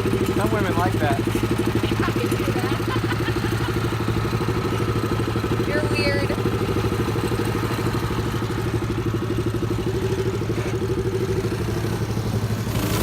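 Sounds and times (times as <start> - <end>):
mini bike engine idling: 0.0 - 13.0.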